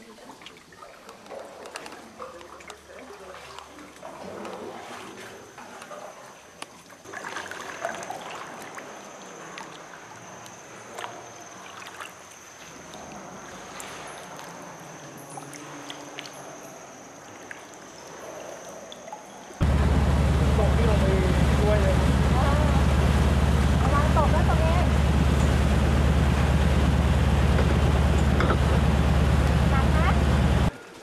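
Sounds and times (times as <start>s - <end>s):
paddle drips and splashes: 0.0s - 29.6s
water splashing and trickling: 0.0s - 30.9s.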